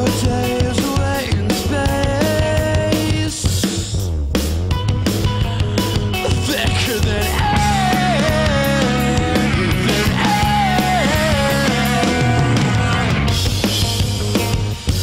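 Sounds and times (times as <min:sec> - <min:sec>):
loud rock music: 0:00.0 - 0:15.0.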